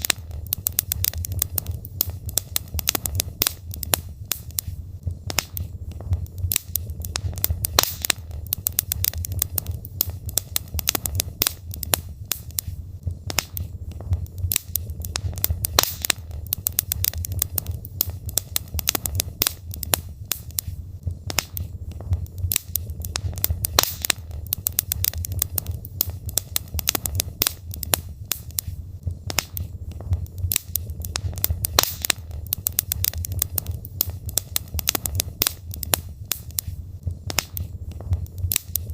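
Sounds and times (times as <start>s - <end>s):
fire rumbling: 0.0s - 38.9s
logs crackling and popping: 0.0s - 38.9s.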